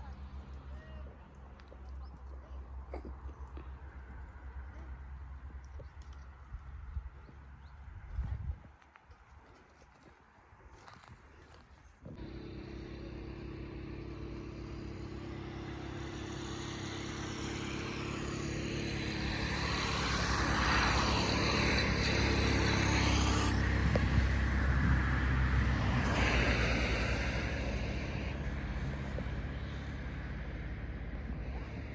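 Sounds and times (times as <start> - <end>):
vehicle engine running: 0.0 - 8.6, 10.8 - 31.9.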